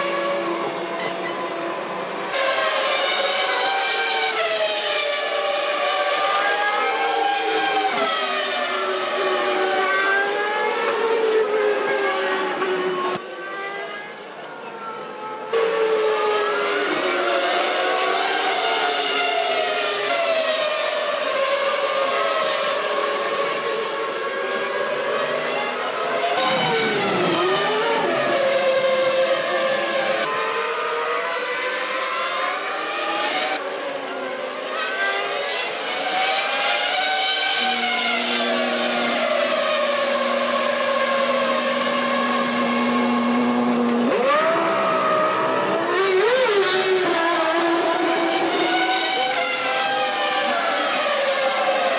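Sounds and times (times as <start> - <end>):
racing car engines revving: 0.0 - 51.9.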